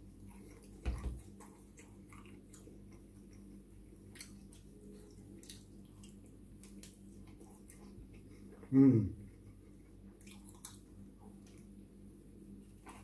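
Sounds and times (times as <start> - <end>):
low steady hum: 0.0 - 13.0
chewing mouth sounds: 0.1 - 11.8.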